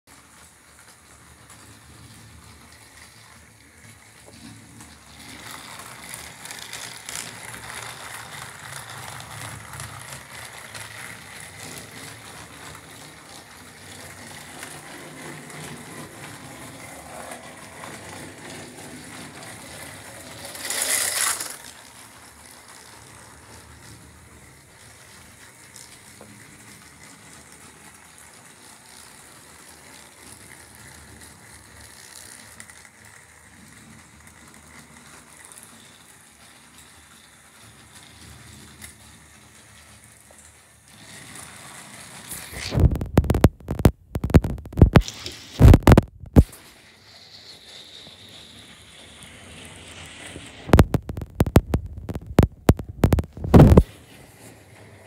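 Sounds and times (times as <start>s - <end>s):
toy train whirring and rattling: 0.1s - 43.4s, 46.4s - 55.0s.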